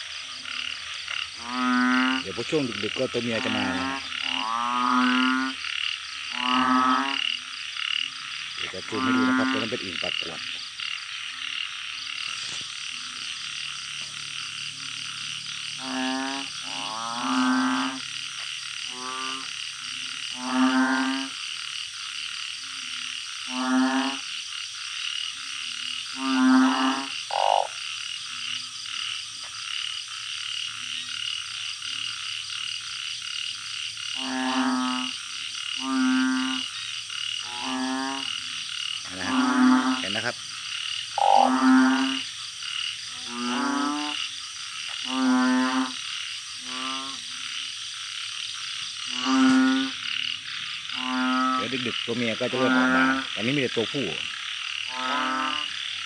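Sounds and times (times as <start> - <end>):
frogs croaking: 0.0 - 56.0
insect chorus: 0.0 - 56.0.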